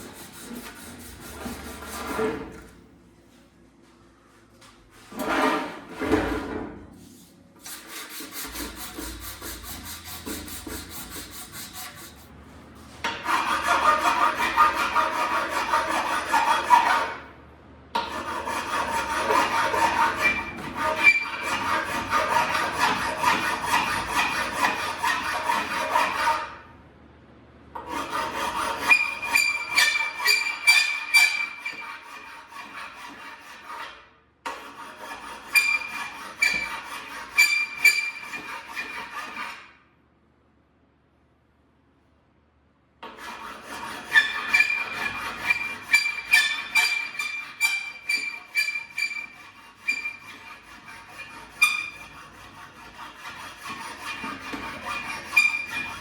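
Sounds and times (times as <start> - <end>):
abrasive tool scraping steel: 0.0 - 2.4, 7.1 - 12.3, 13.0 - 17.2, 18.0 - 26.6, 27.8 - 39.8, 43.0 - 56.0.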